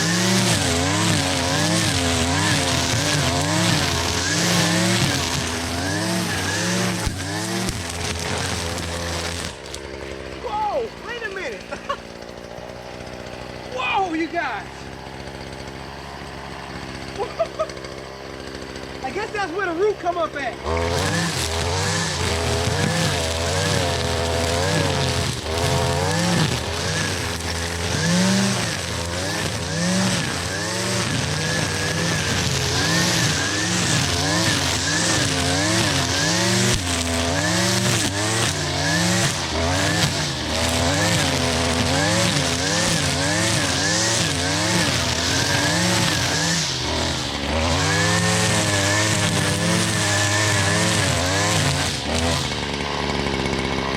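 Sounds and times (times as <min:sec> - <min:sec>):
string trimmer engine revving: 0:00.0 - 0:53.9.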